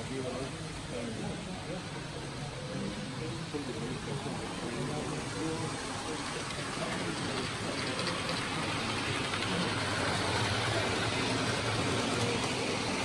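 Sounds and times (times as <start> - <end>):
even hall hum: 0.0 - 13.0
faint indistinct chatter: 0.0 - 13.0.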